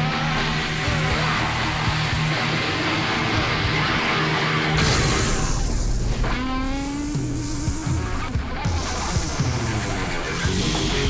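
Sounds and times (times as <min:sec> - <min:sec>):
instrumental rock music with guitar: 0:00.0 - 0:11.0.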